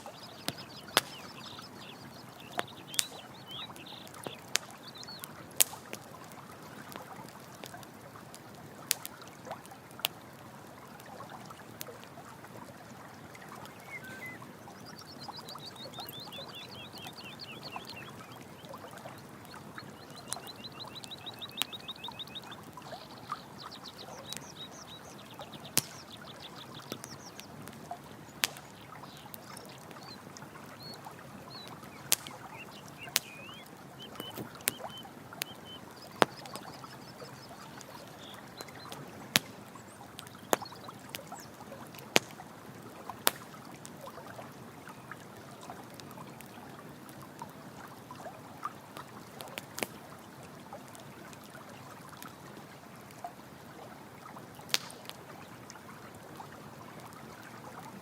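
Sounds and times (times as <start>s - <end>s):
campfire crackling: 0.0s - 58.0s
running water: 0.0s - 58.0s.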